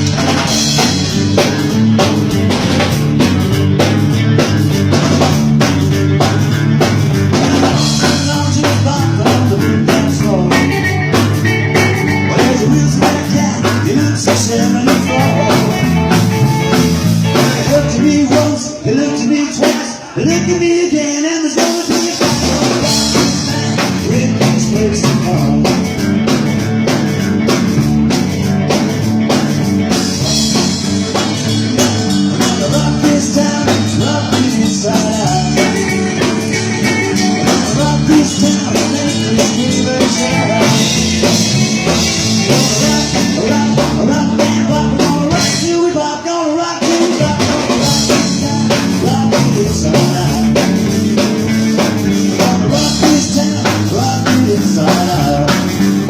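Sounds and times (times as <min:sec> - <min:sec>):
rockabilly band playing: 0:00.0 - 0:56.0.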